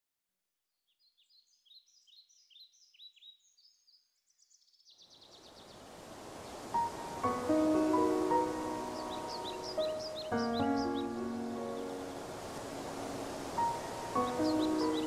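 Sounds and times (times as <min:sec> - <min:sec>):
birds chirping: 0:01.0 - 0:15.0.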